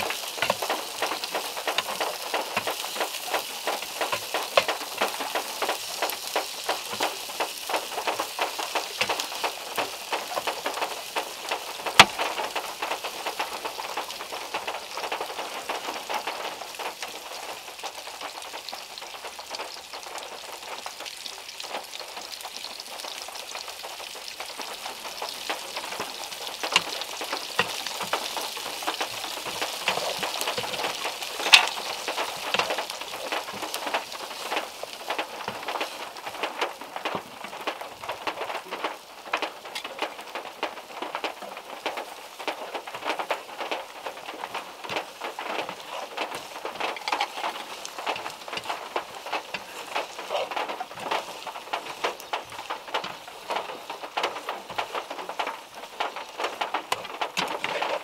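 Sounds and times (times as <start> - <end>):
food sizzling in a frying pan: 0.0 - 58.0
heavy rain on car roof: 0.0 - 58.0.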